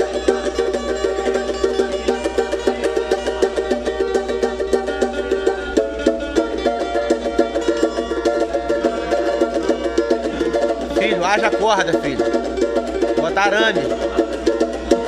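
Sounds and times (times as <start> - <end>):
banjo strummed fast: 0.0 - 15.0.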